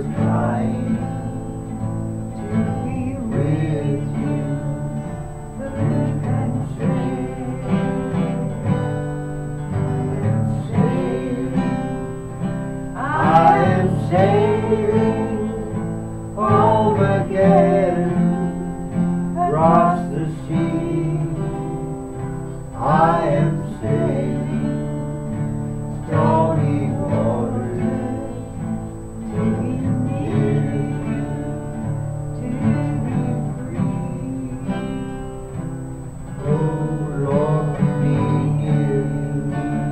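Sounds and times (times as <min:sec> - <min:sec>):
person singing: 0:00.0 - 0:35.6, 0:36.2 - 0:39.9
acoustic guitar strumming: 0:00.0 - 0:39.9.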